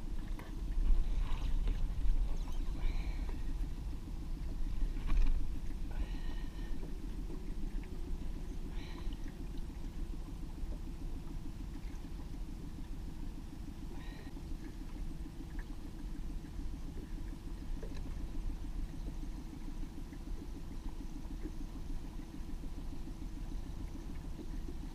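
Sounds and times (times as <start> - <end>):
outboard motor rumble: 0.0 - 24.9.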